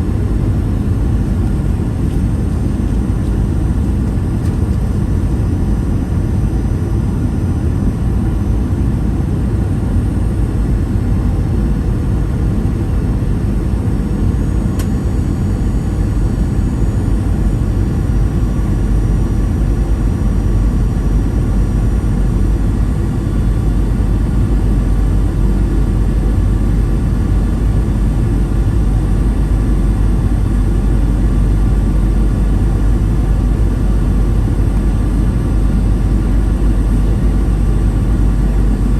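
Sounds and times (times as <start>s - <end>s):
aircraft cabin rumble: 0.0s - 38.9s.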